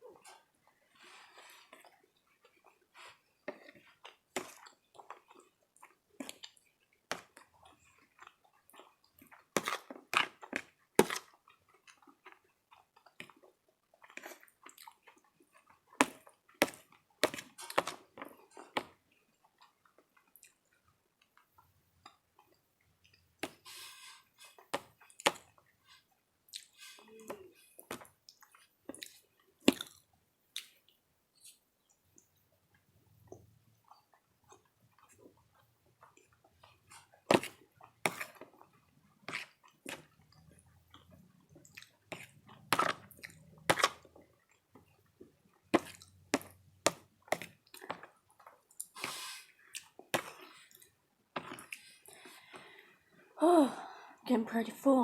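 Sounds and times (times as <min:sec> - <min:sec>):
chewing and mouth smacking: 0:01.1 - 0:23.4, 0:24.4 - 0:52.6.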